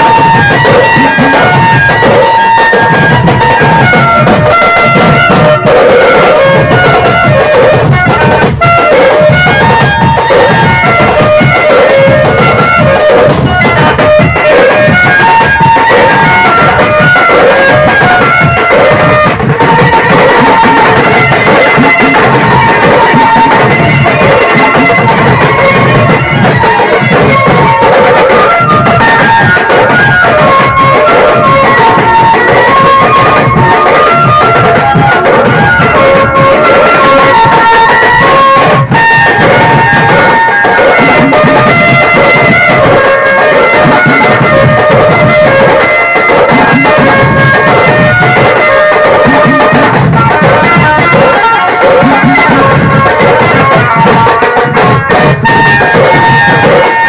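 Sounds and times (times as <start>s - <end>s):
barrel drums beating: 0.0s - 57.0s
reedy double-reed pipe melody: 0.0s - 57.0s.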